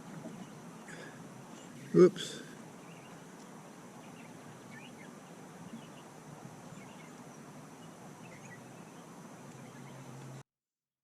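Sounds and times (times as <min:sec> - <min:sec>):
faint bird chirps: 0:00.1 - 0:10.4.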